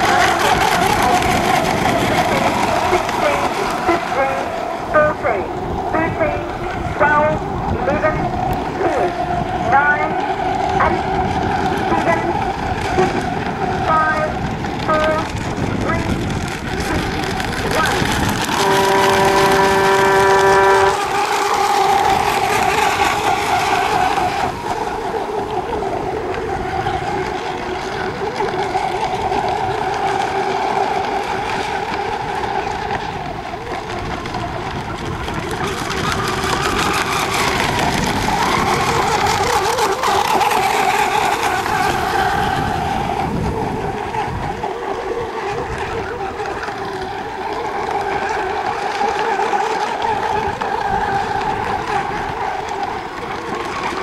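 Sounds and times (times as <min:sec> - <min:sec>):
model boat engines droning: 0:00.0 - 0:54.0.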